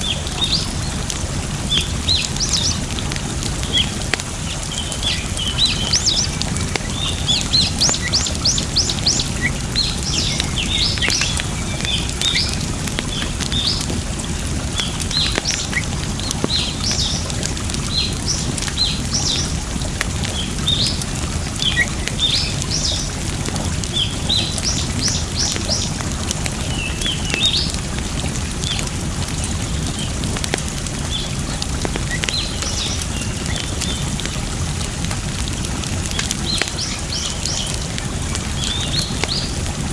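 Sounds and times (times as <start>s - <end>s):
small birds chirping: 0.0s - 28.0s, 28.6s - 34.5s, 35.5s - 39.7s
water rushing: 0.0s - 39.9s
wood fire crackling: 0.0s - 39.9s.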